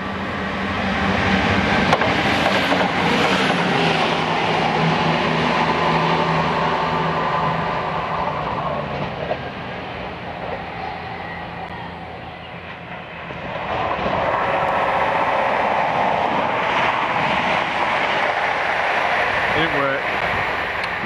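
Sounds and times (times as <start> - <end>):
diesel train engine moving away: 0.0 - 21.0
train passing at speed: 0.0 - 21.0.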